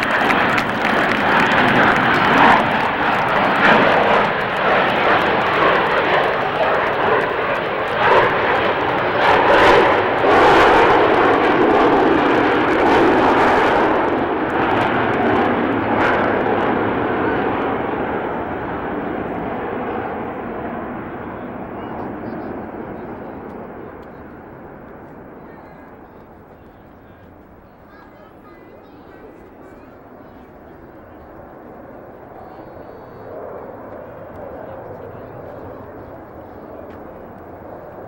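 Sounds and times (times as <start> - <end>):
jet bomber engines roaring: 0.0 - 38.0.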